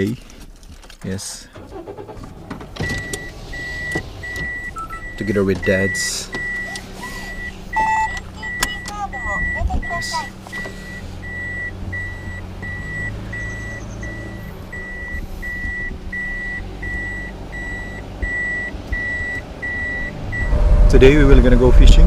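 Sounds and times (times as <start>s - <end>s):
engine hum: 0.0s - 22.0s
car warning beeper: 2.8s - 20.9s.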